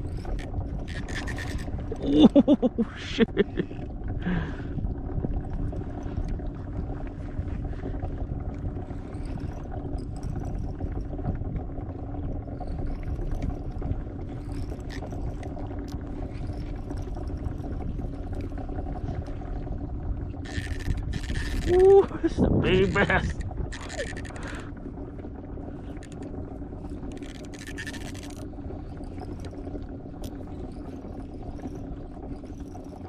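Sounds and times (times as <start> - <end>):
low even hum: 0.0 - 33.0
water wash: 0.0 - 33.0.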